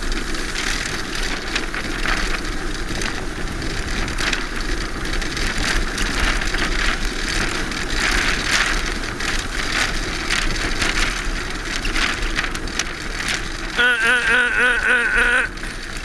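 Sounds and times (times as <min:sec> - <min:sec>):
wheels rattling over sand: 0:00.0 - 0:16.0.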